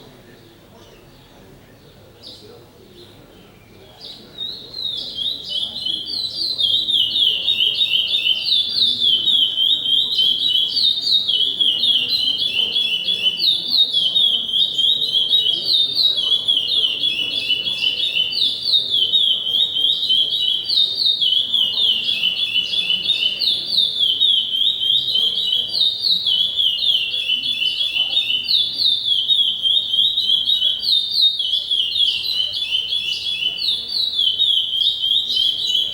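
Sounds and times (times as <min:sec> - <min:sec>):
songbird whistled song: 0:00.8 - 0:35.9.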